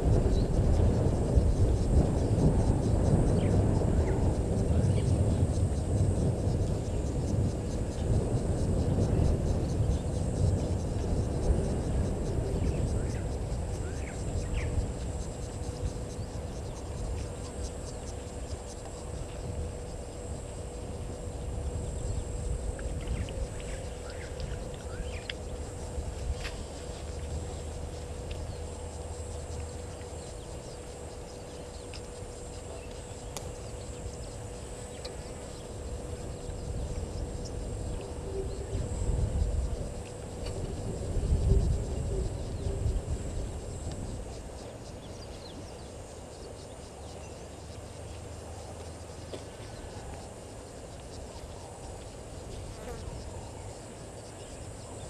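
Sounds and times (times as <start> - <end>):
faint steady hum: 0.0 - 55.0
high insect buzz: 0.0 - 55.0
wind rumble on microphone: 0.0 - 55.0.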